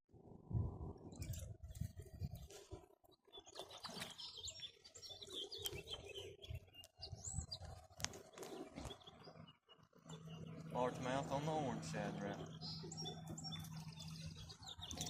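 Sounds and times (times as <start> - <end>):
small birds chirping: 1.1 - 15.0.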